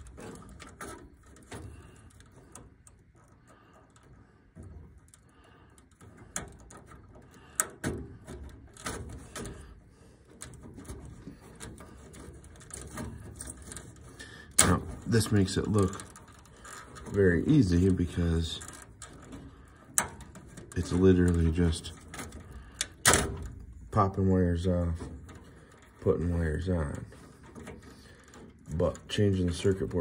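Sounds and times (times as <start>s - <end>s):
wire terminals clicking: 0.0s - 30.0s
wires being handled: 0.0s - 30.0s.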